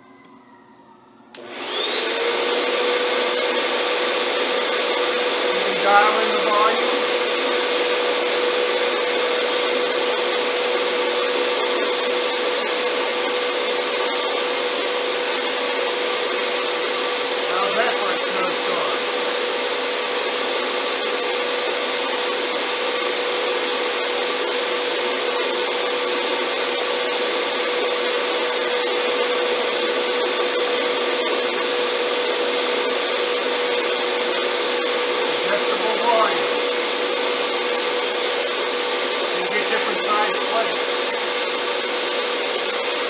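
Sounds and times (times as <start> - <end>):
snow machine blower rush: 1.3 - 43.0.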